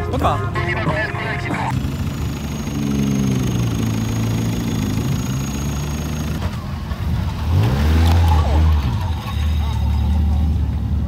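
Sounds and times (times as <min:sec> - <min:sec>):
car engine revving: 0:00.5 - 0:11.0.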